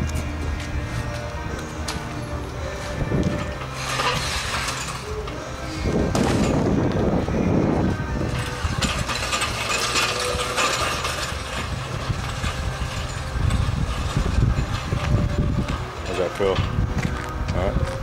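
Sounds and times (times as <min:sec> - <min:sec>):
metal sled scraping on concrete: 0:00.1 - 0:18.0.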